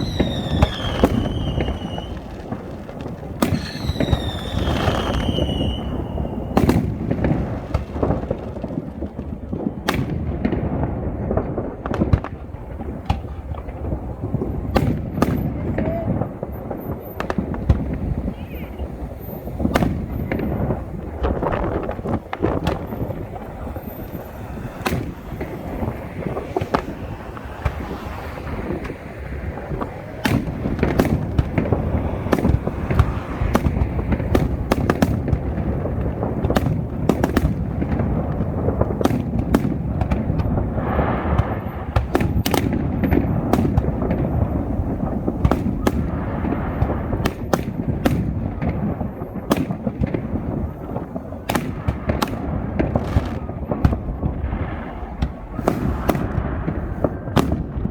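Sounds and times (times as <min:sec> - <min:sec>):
fireworks booming: 0:00.0 - 0:57.9
fireworks crackling: 0:00.0 - 0:57.9.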